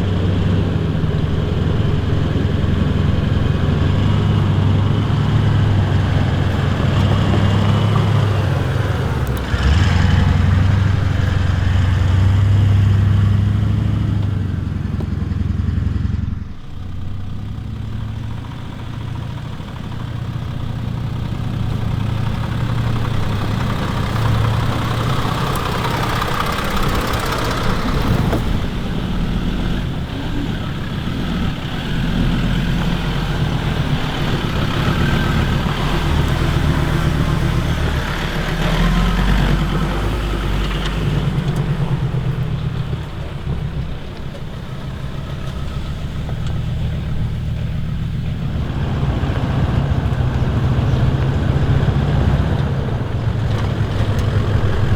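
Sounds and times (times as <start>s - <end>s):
road noise on gravel: 0.0s - 54.9s
vehicle engine running: 0.0s - 54.9s.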